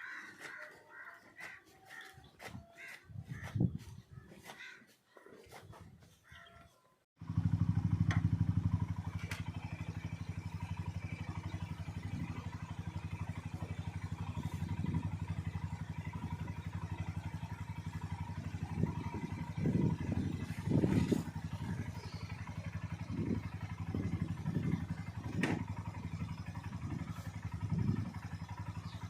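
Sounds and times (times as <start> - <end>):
motorcycle engine idling: 0.0 - 4.9, 7.2 - 29.0.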